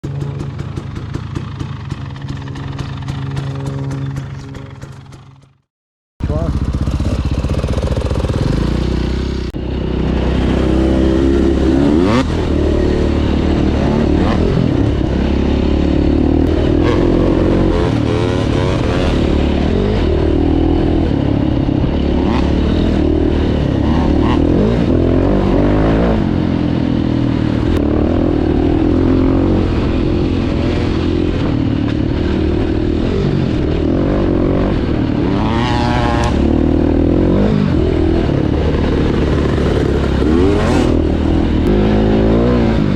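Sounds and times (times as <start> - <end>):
dirt bike engine revving: 0.0 - 5.6, 6.2 - 42.9.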